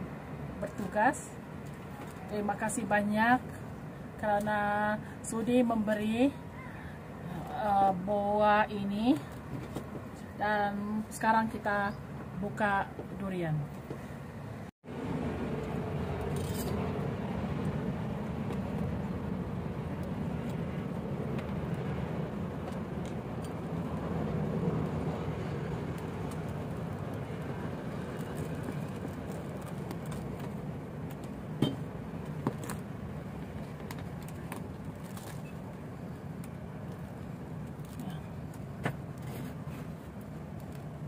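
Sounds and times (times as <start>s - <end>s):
low background rumble: 0.0s - 41.0s.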